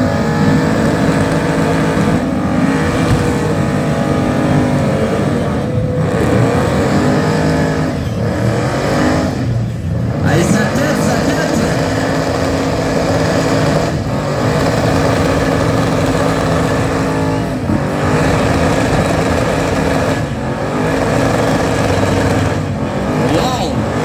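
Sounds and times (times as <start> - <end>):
car engine revving: 0.0 - 24.0
tires spinning on pavement: 0.0 - 24.0.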